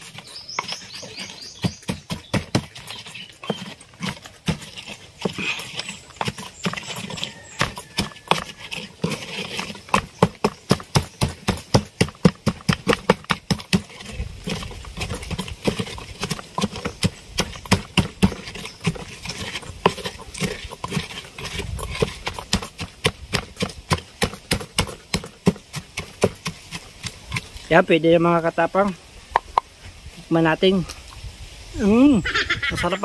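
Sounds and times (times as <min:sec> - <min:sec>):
pestle pounding in wooden mortar: 0:00.0 - 0:29.7.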